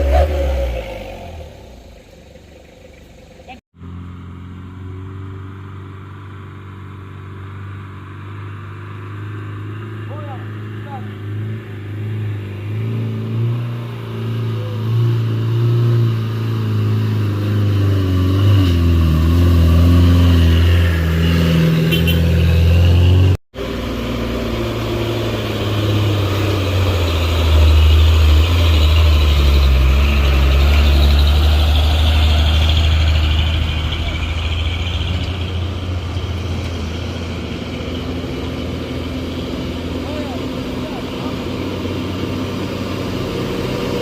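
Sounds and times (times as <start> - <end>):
heavy vehicle engine under load: 0.0 - 44.0.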